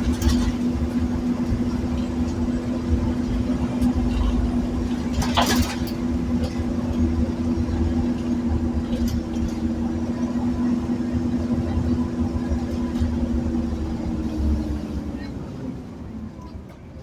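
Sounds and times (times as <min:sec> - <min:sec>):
diesel bus engine humming: 0:00.0 - 0:17.0.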